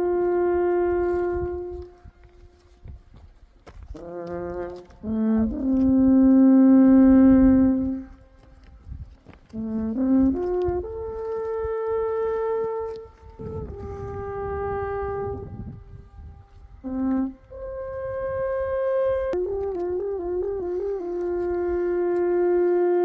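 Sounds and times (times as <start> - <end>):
alphorn playing slow melody: 0.0 - 23.0.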